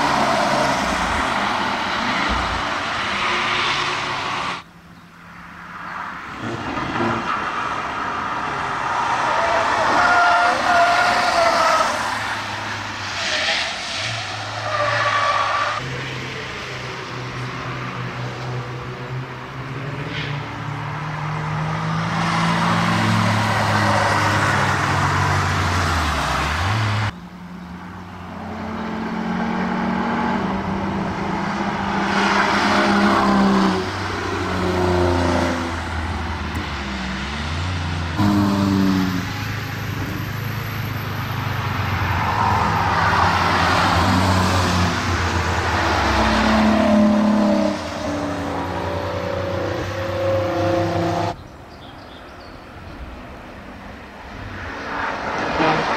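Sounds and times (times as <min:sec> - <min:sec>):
cars racing past: 0:00.0 - 0:52.2, 0:53.2 - 0:55.9.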